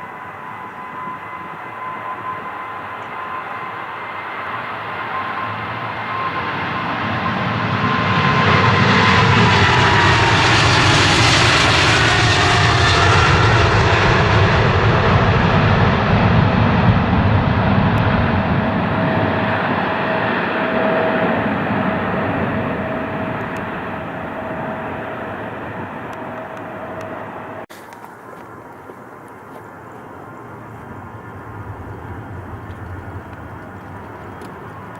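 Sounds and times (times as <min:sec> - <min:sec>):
jet engine whine: 0:00.0 - 0:27.7, 0:28.5 - 0:34.9
airliner engines passing: 0:00.0 - 0:34.9.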